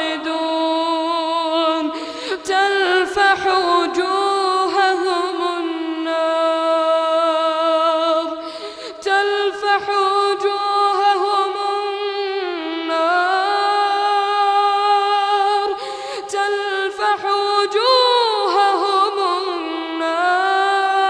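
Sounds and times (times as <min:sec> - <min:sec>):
boy reciting melodically: 0:00.0 - 0:21.0.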